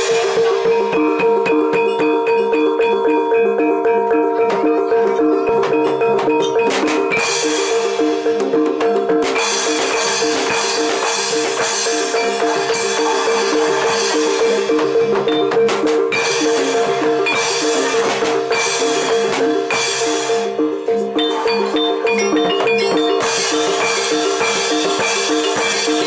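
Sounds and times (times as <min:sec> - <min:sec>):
gamelan music: 0:00.0 - 0:26.0.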